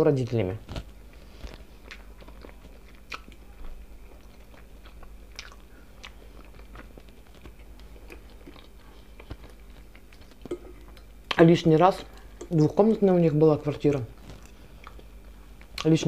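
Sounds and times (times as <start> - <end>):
wet chewing and smacking: 0.7 - 11.4, 13.8 - 16.0.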